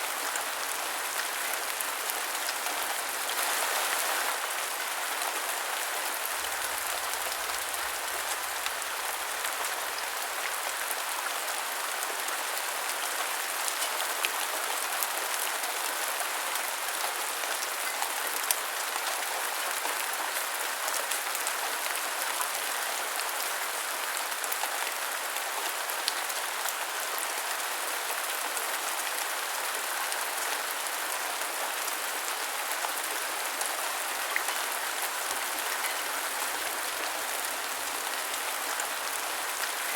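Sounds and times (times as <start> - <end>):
rainfall hiss: 0.0 - 39.9.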